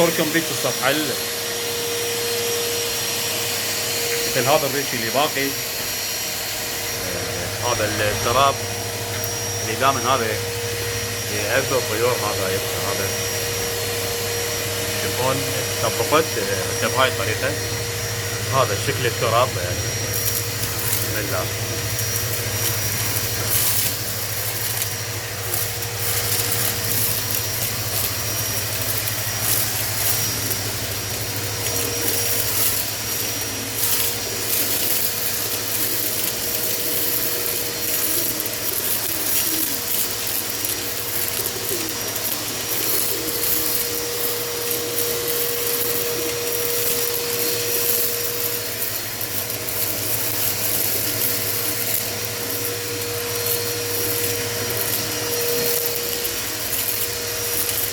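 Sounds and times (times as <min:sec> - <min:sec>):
scratchy rustles of debris: 0:00.0 - 0:57.9
vacuum cleaner running: 0:00.0 - 0:57.9.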